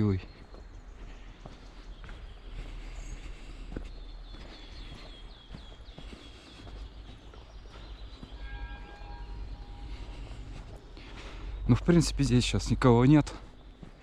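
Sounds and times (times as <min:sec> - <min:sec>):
bird chirping: 0:00.0 - 0:14.0
footsteps on uneven ground: 0:00.0 - 0:14.0.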